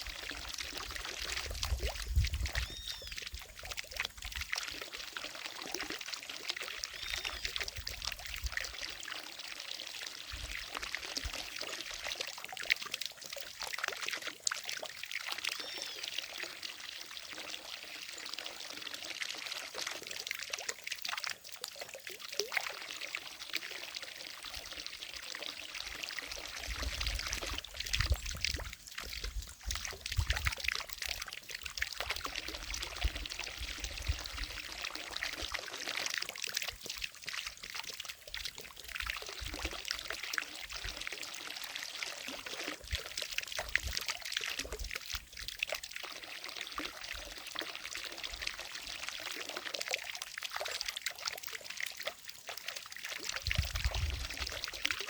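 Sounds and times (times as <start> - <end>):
fountain water splashing into pond: 0.0 - 55.0.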